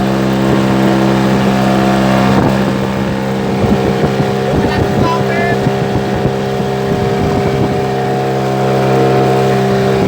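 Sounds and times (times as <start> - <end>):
boat engine droning: 0.0 - 10.0
water splashes: 0.0 - 10.0
wind buffeting microphone: 0.0 - 10.0.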